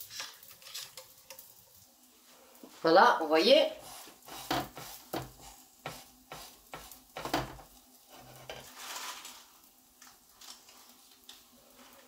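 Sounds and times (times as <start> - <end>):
flatbread sizzling: 0.0 - 12.0.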